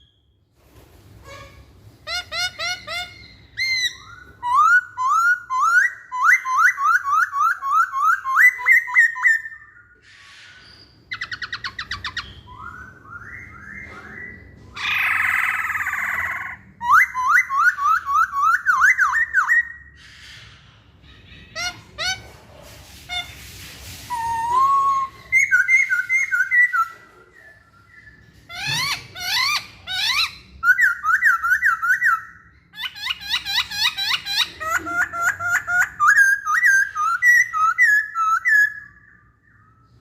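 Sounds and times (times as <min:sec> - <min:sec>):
bird whistling song: 0:01.3 - 0:22.2, 0:24.0 - 0:40.0.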